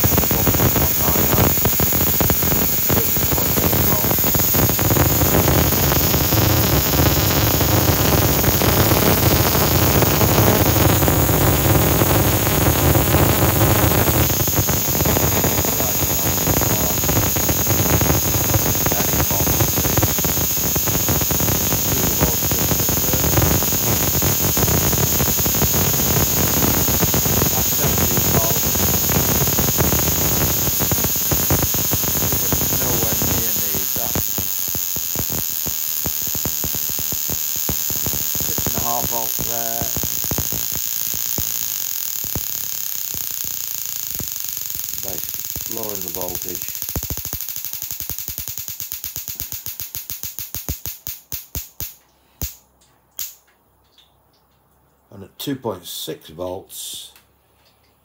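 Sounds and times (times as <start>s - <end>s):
crackling buzz of sparks: 0.0s - 54.0s.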